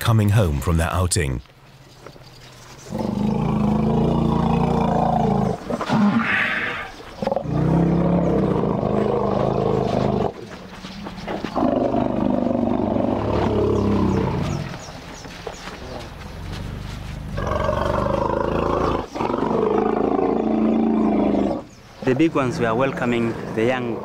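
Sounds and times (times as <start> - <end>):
elephants rumbling calls: 2.8 - 14.9, 15.8 - 24.0.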